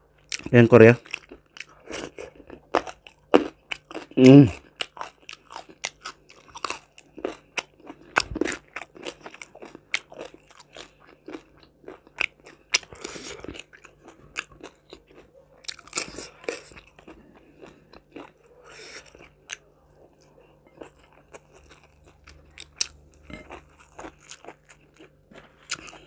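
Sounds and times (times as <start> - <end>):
crunching and chewing food: 0.0 - 26.0.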